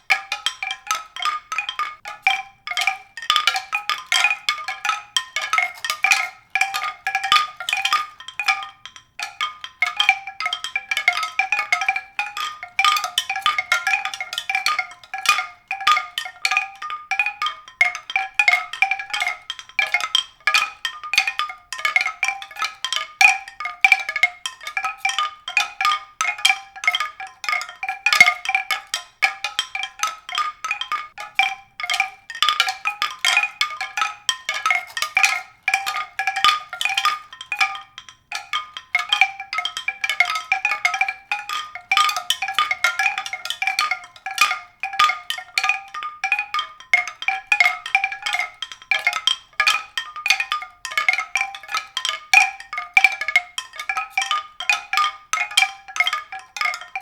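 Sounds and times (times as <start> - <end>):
mallet percussion music: 0.0 - 57.0.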